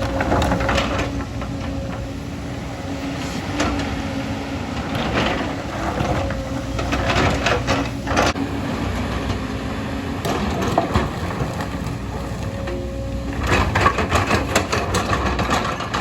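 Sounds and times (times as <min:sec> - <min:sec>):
soil and stones scraping: 0:00.0 - 0:09.5, 0:10.2 - 0:16.0
diesel engine under load: 0:00.0 - 0:16.0.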